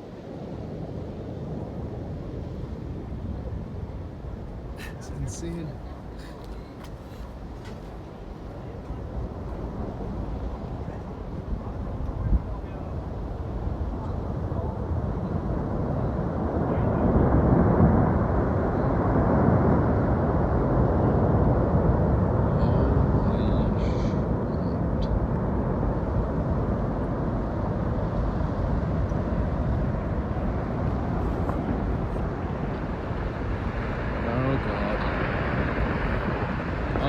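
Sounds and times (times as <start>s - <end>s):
avalanche rumbling: 0.0s - 37.0s.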